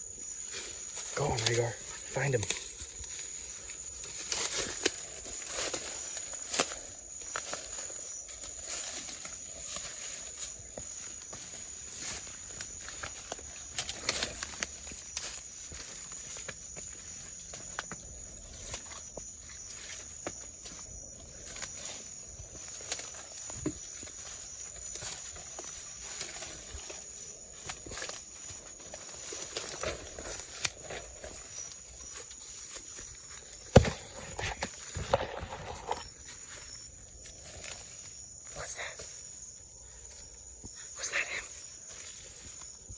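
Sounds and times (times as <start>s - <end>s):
footsteps through brush: 0.0s - 42.9s
insect trill: 0.0s - 42.9s.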